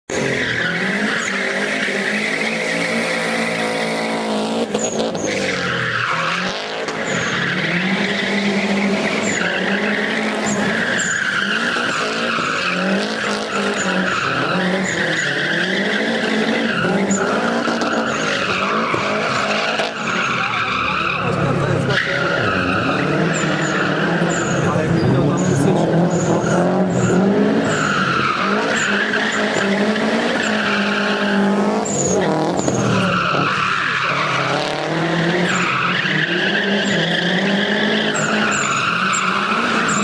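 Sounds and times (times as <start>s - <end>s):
rally car engine revving: 0.1s - 40.0s
tyres squealing: 0.2s - 40.0s.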